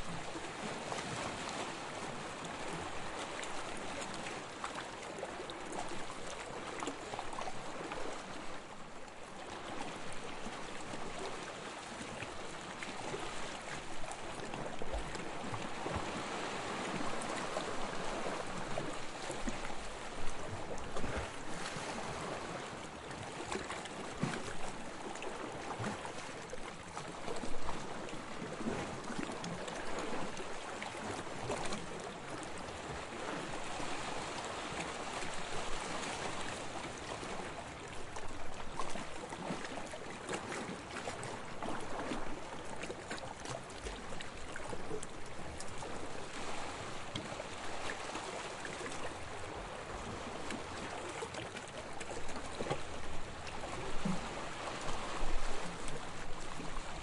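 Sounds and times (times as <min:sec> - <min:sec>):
sea water lapping and splashing: 0:00.0 - 0:57.0.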